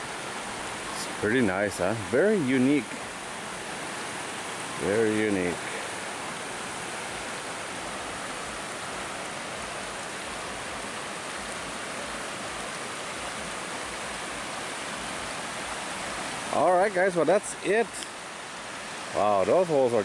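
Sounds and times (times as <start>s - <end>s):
stream flowing over rocks: 0.0s - 20.0s
waterfall rushing: 0.0s - 20.0s.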